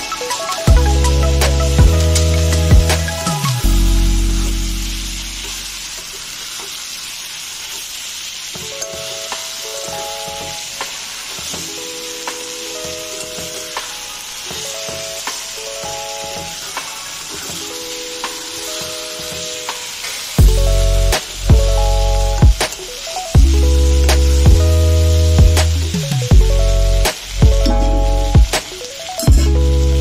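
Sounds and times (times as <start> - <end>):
light background melody: 0.0 - 6.0, 8.6 - 30.0
curry sizzling in a pan: 0.0 - 30.0.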